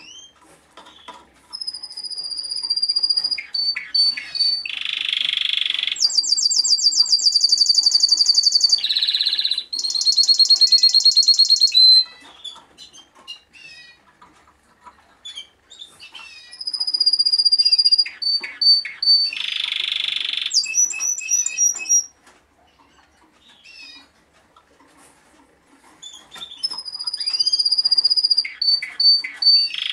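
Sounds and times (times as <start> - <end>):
canary singing: 0.0 - 14.1, 15.0 - 24.2, 25.8 - 29.9.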